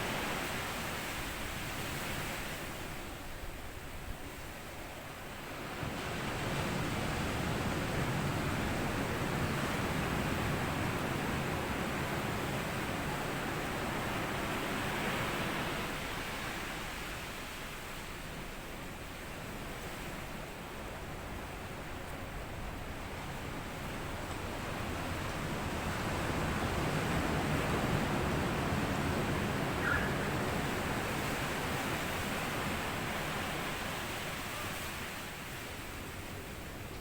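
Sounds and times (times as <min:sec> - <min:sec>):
small waves washing over sand: 0:05.1 - 0:37.0.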